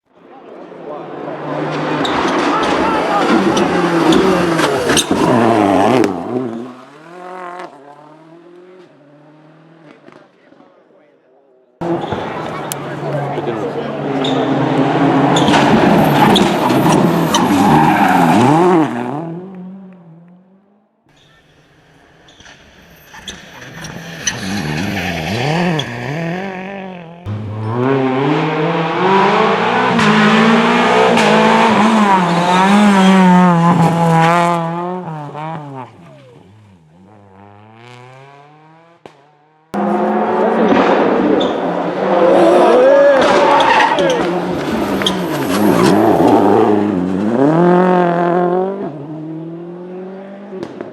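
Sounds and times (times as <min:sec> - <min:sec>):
rally cars revving past: 0:00.7 - 0:10.2, 0:11.8 - 0:20.6, 0:23.0 - 0:50.9.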